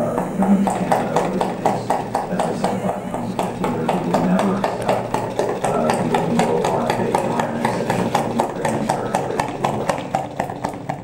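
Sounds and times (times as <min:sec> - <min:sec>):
engine rhythmic clicking: 0:00.0 - 0:11.0.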